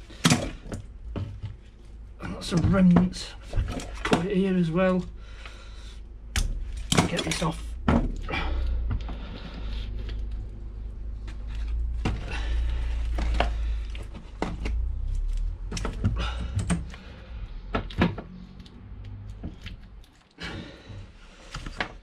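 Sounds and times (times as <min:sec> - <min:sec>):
steady low rumble: 0:00.0 - 0:20.2.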